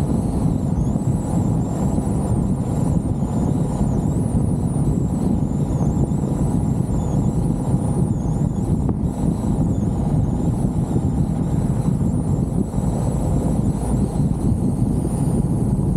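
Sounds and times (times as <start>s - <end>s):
faint high wavering whine: 0.0s - 15.9s
road and engine noise: 0.0s - 15.9s
wind blasting over microphone: 0.0s - 15.9s.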